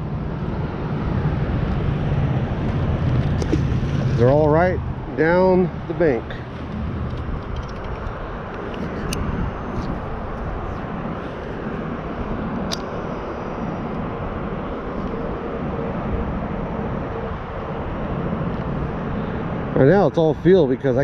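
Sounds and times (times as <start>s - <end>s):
low rumble: 0.0s - 19.8s.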